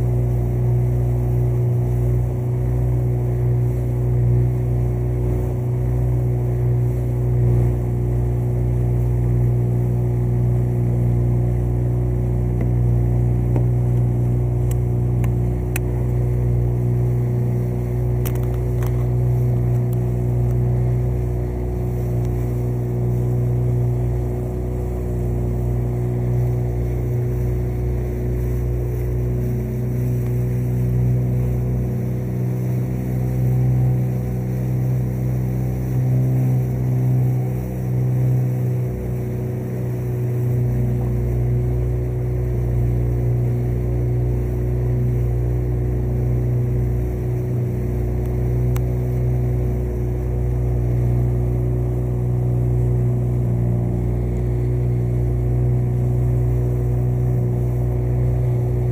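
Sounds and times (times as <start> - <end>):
motorboat engine droning: 0.0 - 58.9.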